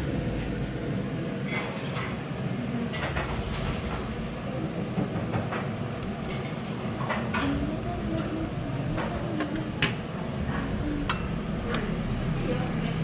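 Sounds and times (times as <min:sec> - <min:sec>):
busy food stall rumble: 0:00.0 - 0:13.0.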